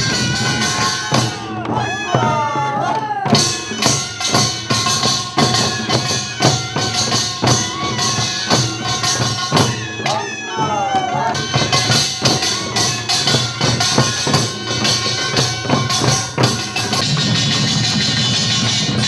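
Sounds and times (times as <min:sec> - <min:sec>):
metallic percussion on steady beat: 0:00.0 - 0:19.0.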